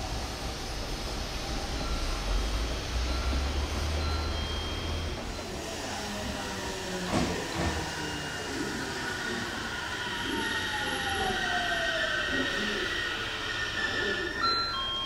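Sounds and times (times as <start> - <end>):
electric train running on rails: 0.0 - 15.0.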